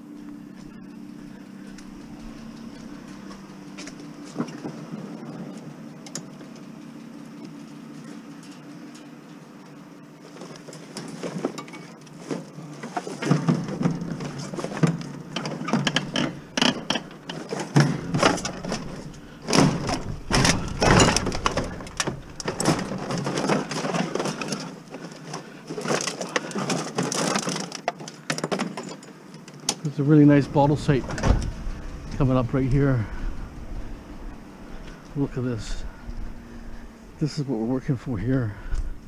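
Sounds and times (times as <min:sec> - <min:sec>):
metal fan scraping and clattering: 0:01.2 - 0:29.3, 0:29.9 - 0:39.0.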